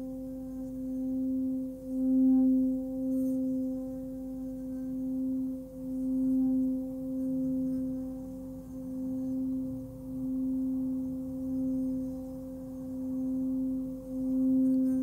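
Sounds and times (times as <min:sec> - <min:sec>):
singing bowl ringing tone: 0:00.0 - 0:15.0.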